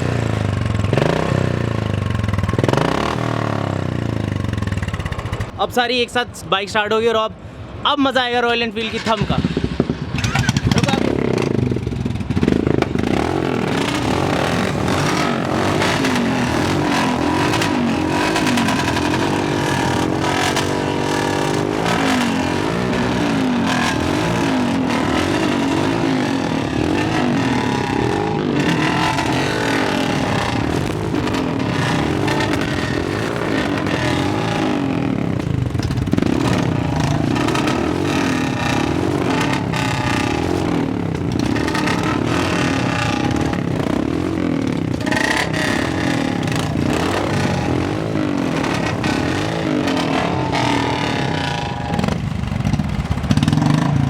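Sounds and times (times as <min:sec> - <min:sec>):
motorcycle engines revving: 0:00.0 - 0:06.0, 0:07.6 - 0:54.0.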